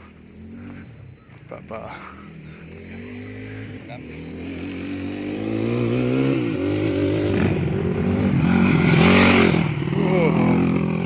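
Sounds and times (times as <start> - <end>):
dirt bike engine revving: 0.3 - 11.0.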